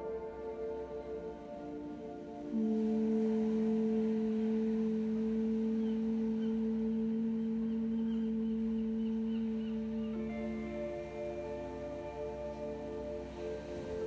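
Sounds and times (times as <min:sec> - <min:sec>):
faint high chirps: 0:00.0 - 0:14.0
woman humming a low note: 0:00.0 - 0:14.0.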